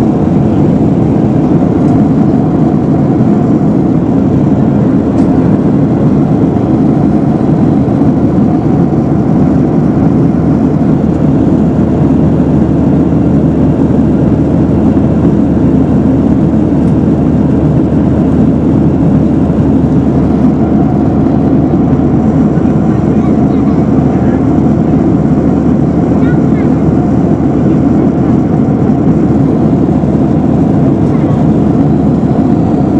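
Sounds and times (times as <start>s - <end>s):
jet cabin engine rumble: 0.0s - 32.9s.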